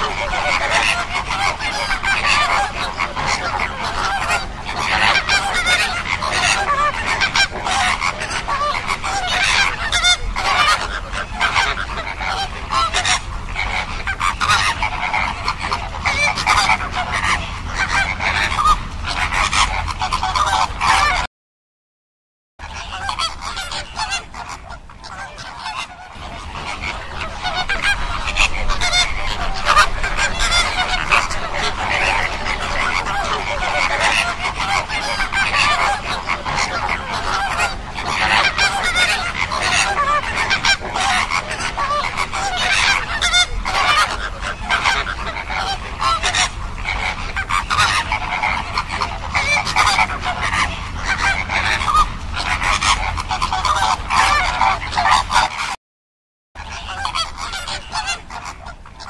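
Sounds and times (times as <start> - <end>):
flamingos honking: 0.0 - 21.3, 22.6 - 55.8, 56.6 - 59.0.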